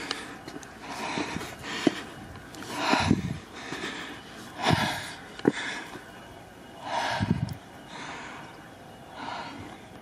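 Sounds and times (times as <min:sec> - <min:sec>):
person breathing hard: 0:00.0 - 0:06.1, 0:06.8 - 0:10.0.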